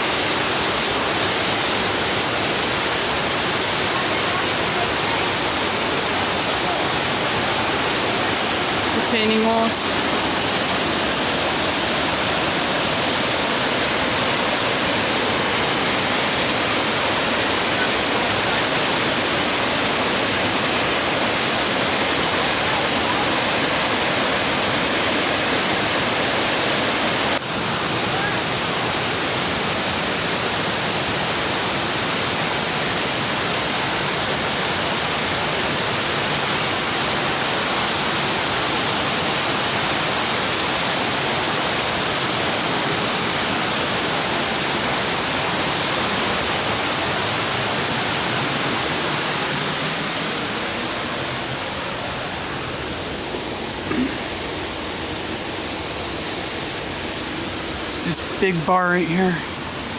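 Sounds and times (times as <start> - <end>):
rushing flowing water: 0.0 - 59.9.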